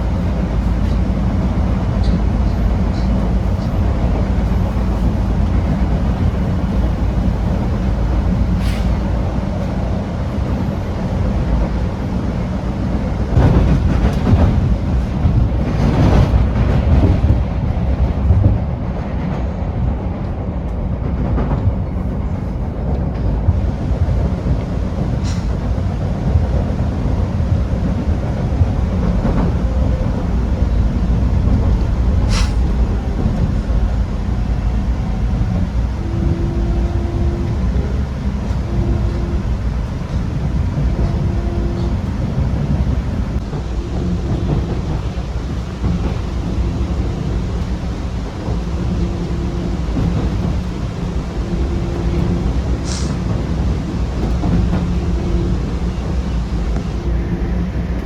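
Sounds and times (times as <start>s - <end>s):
subway train rumbling: 0.0s - 58.0s.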